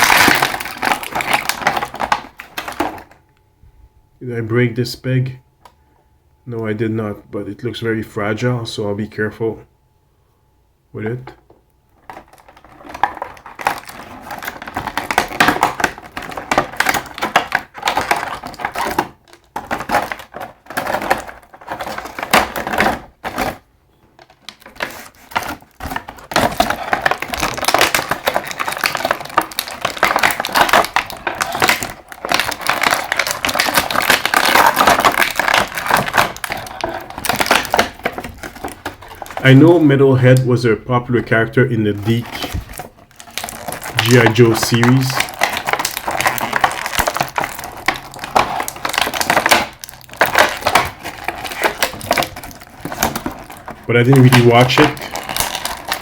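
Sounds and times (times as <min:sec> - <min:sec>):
plastic packaging crinkling: 0:00.0 - 0:03.4, 0:11.9 - 0:56.0
plastic parts clicking and knocking: 0:00.0 - 0:03.4, 0:11.4 - 0:40.4, 0:42.0 - 0:56.0.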